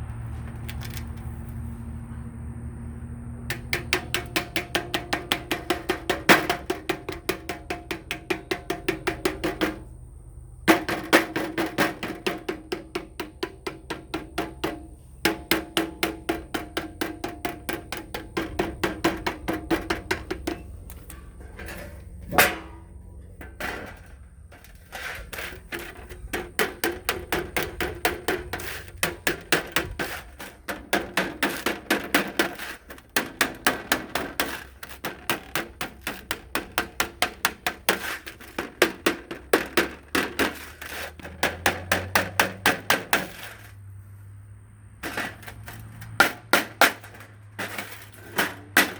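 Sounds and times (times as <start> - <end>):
hammer striking sheet metal: 3.5 - 9.9, 10.7 - 43.8, 45.0 - 48.9.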